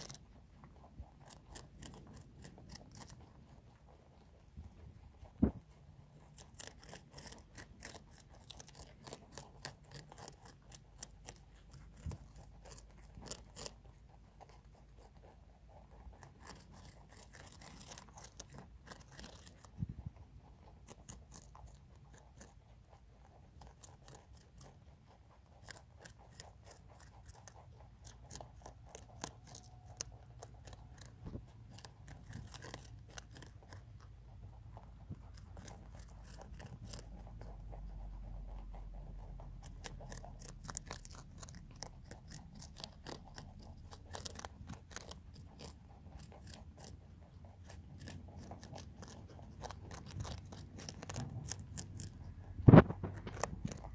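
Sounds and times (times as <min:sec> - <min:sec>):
rabbits crunching cabbage: 0:00.0 - 0:53.9.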